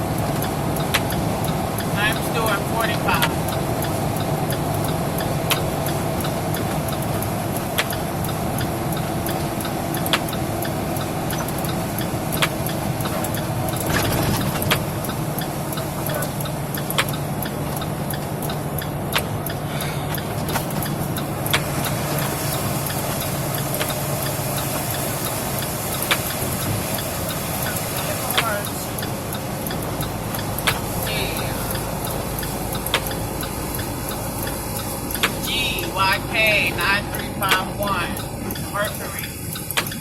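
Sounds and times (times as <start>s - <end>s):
car engine and road noise: 0.0s - 40.0s
sharp ticking: 0.0s - 40.0s.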